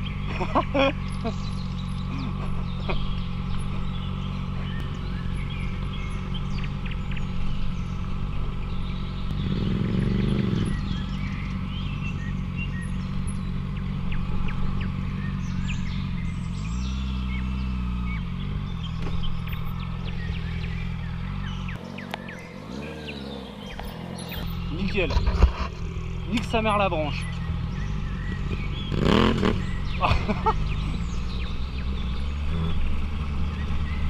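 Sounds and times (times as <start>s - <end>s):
motorcycle engine at low revs: 0.0s - 34.0s.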